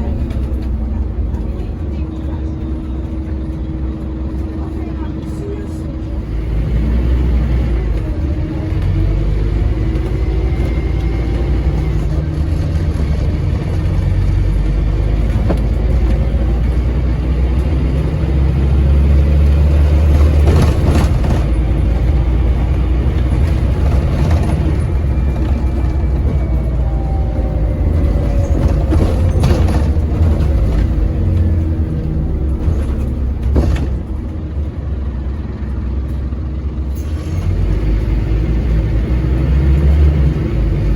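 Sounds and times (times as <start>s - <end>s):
diesel bus engine at full throttle: 0.0s - 40.9s.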